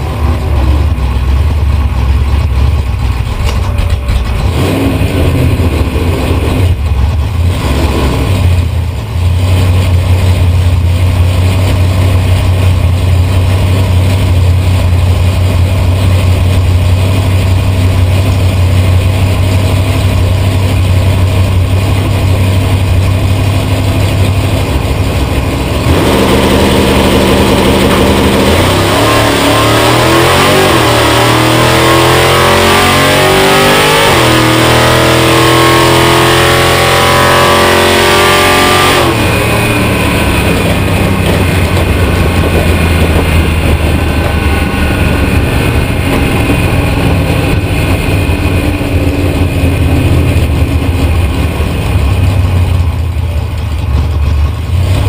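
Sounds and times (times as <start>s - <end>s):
high pitched engine layer: 0.0s - 53.5s
car engine idling loudly: 0.0s - 55.0s.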